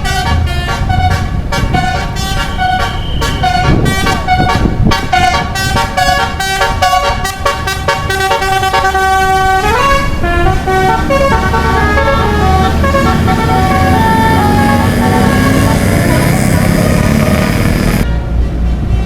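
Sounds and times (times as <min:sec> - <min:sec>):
musical air horns: 0:00.0 - 0:19.0.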